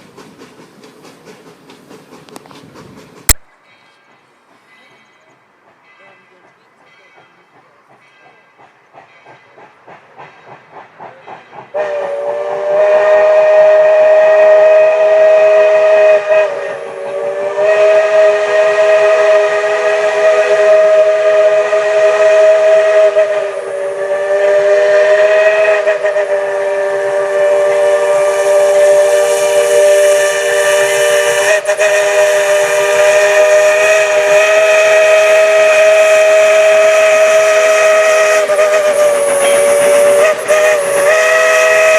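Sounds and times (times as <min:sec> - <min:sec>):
rhythmic locomotive chuffing: 0:00.0 - 0:41.9
steam locomotive whistle: 0:08.0 - 0:41.9.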